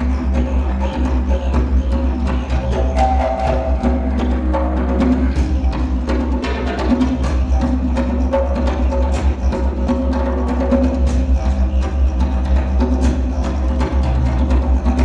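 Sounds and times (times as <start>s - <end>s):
didgeridoo drone: 0.0s - 15.0s
djembe strokes: 0.0s - 15.0s.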